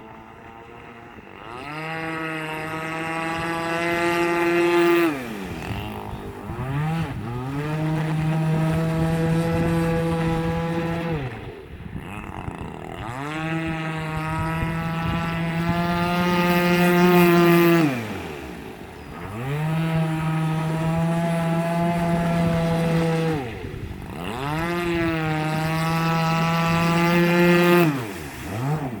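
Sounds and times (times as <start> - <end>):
model boat engine revving: 0.0 - 29.0.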